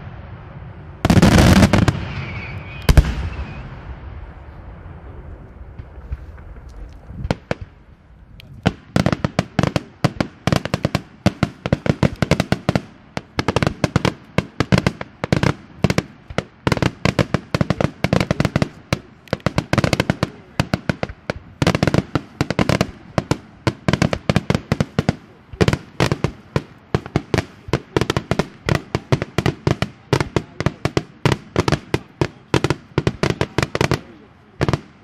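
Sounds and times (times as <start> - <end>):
lone firework cracks: 0.0 - 4.9, 5.5 - 35.0
firecrackers crackling: 0.0 - 35.0.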